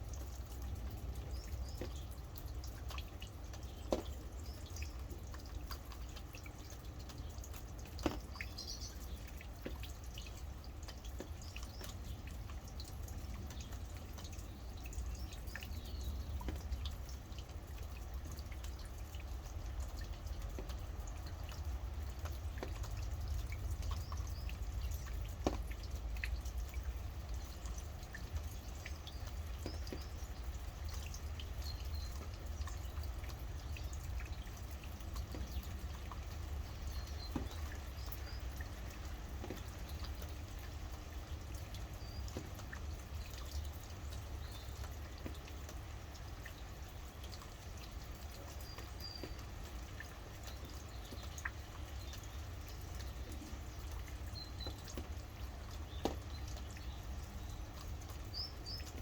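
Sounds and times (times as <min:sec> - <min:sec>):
drips ticking: 0:00.0 - 0:59.0
steady rain: 0:00.0 - 0:59.0.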